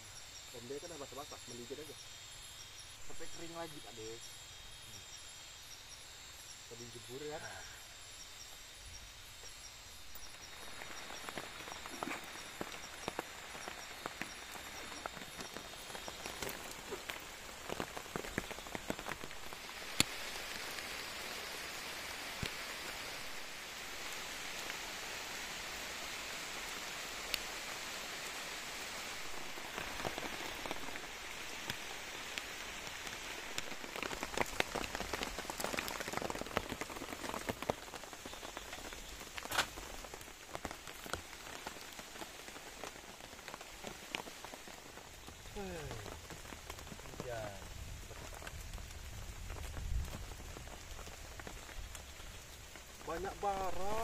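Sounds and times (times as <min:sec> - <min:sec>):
rain hissing in forest: 0:00.0 - 0:54.0.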